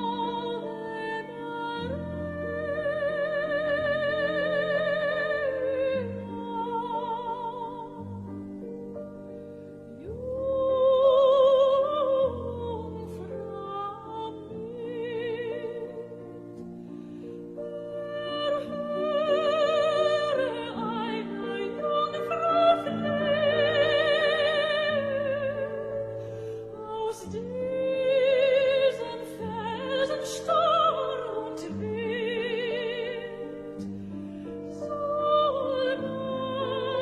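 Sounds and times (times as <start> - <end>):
slow classical accompaniment: 0.0 - 37.0.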